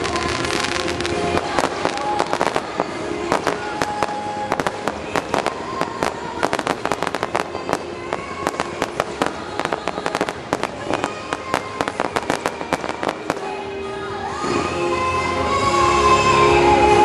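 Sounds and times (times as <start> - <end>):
fireworks crackling pops: 0.0 - 14.6.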